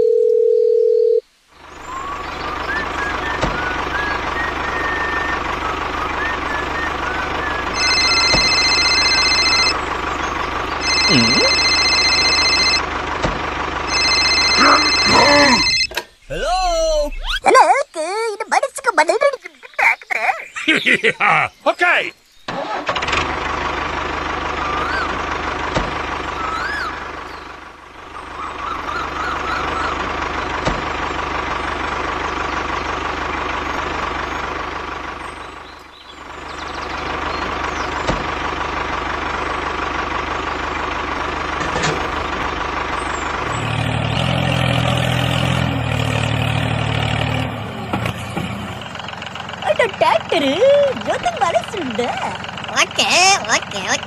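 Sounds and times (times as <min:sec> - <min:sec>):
tractor engine running: 0:01.6 - 0:17.7, 0:21.7 - 0:54.0.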